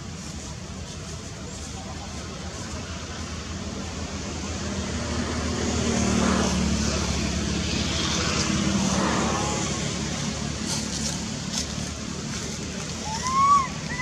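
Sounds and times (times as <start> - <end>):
outdoor rumble and hiss: 0.0 - 14.0.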